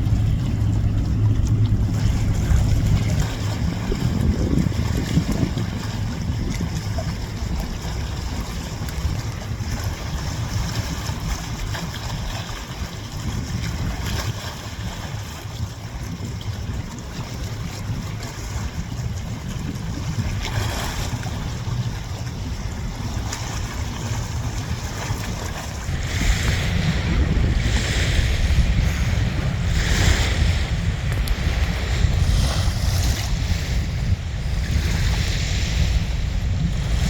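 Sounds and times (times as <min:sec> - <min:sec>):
waves rushing: 0:00.0 - 0:37.0
wind rumble: 0:00.0 - 0:37.0.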